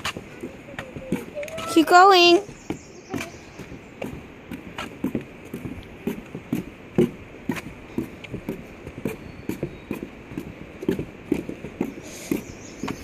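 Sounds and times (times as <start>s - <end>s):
footsteps on a trail: 0.0s - 13.0s.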